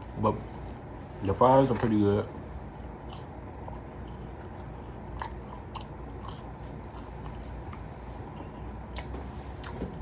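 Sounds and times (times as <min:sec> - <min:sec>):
low background hum: 0:00.0 - 0:10.0
person chewing food: 0:00.0 - 0:10.0.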